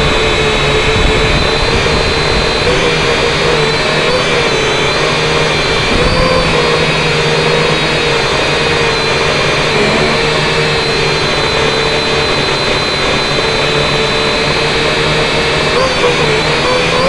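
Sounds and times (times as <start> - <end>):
drone propellers whining: 1.2 - 17.0.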